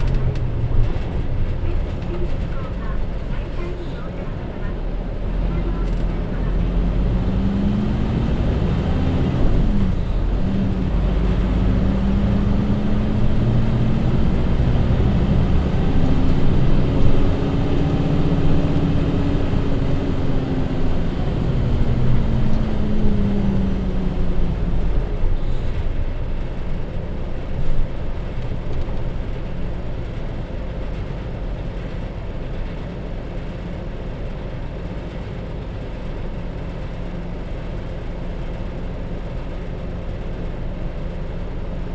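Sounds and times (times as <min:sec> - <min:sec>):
bus diesel engine pulling away: 0:00.0 - 0:41.9.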